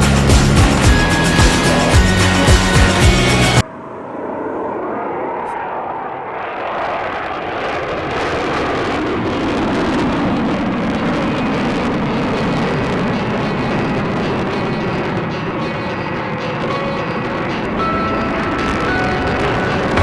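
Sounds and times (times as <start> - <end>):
jet aircraft roar: 0.0 - 20.0.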